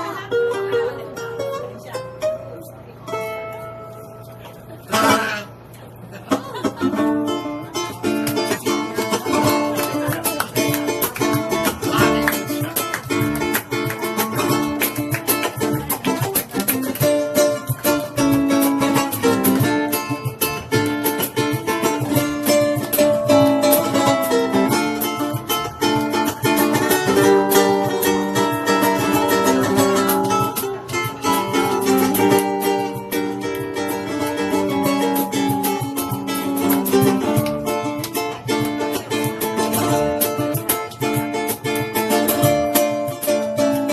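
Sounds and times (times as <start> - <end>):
ukuleles strumming: 0.0 - 43.9.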